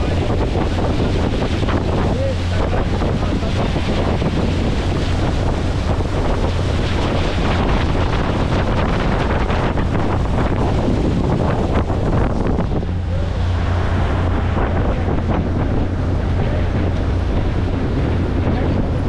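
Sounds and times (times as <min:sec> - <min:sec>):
boat engine low rumble: 0:00.0 - 0:19.0
water rushing past hull: 0:00.0 - 0:19.0
wind buffeting microphone: 0:00.0 - 0:19.0.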